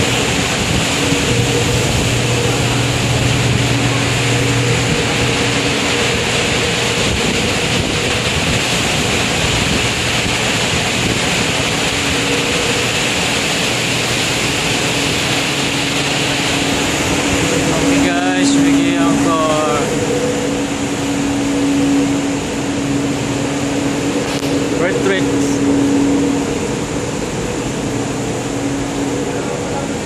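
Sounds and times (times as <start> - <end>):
low machinery hum: 0.0 - 30.0
rushing wind: 0.0 - 30.0
sea waves: 0.0 - 30.0.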